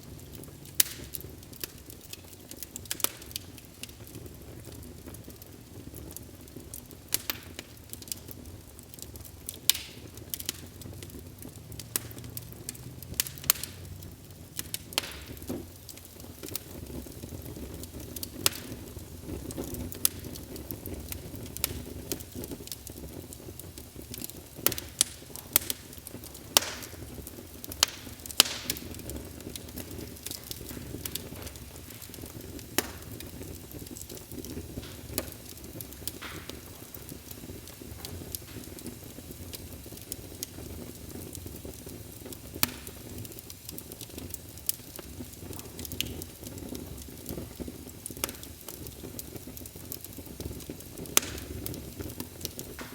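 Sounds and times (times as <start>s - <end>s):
fire crackling and popping: 0.0s - 52.9s
fire rumbling: 0.0s - 52.9s.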